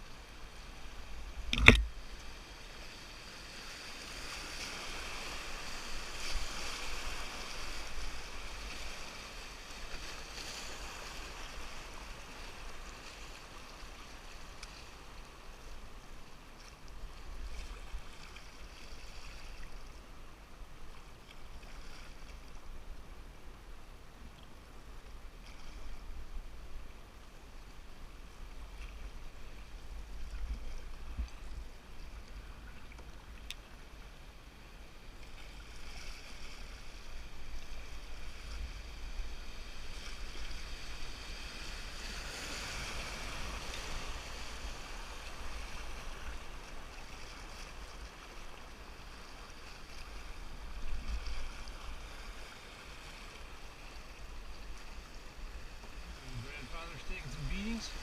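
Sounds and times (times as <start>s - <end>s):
river water rushing and splashing: 0.0s - 58.0s.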